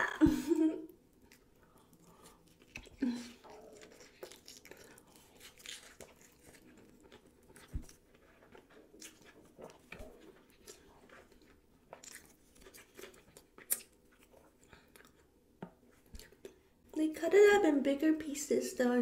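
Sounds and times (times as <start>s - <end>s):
wet chewing mouth sounds: 1.2s - 16.6s.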